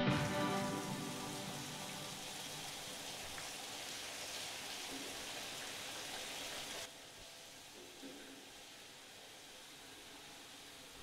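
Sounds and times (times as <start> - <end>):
shower water spraying: 0.1 - 11.0.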